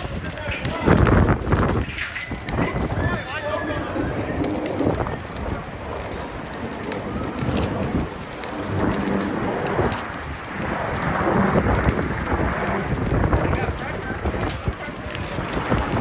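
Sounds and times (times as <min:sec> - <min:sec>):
gusty wind buffeting microphone: 0:00.0 - 0:16.0
steady crackling hiss: 0:00.0 - 0:16.0.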